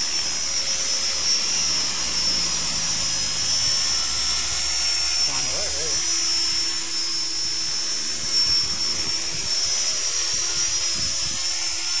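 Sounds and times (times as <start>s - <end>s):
electric motor whine: 0.0s - 12.0s
rotor blades whirring: 0.0s - 12.0s.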